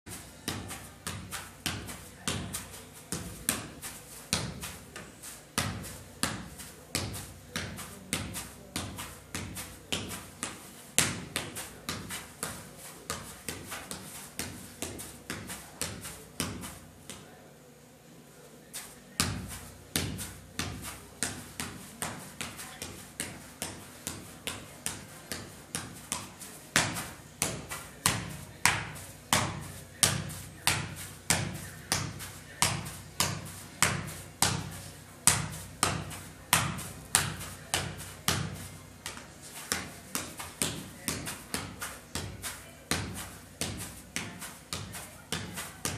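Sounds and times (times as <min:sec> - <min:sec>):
soccer ball thudding on foot: 0:00.1 - 0:17.2, 0:19.2 - 0:45.9.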